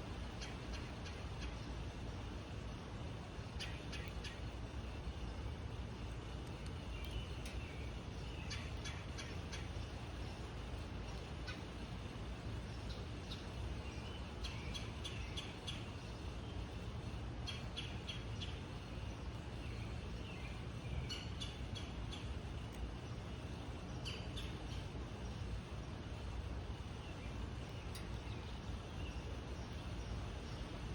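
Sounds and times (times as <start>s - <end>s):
low rumble of background noise: 0.0s - 30.9s
songbirds chirping: 0.0s - 30.9s.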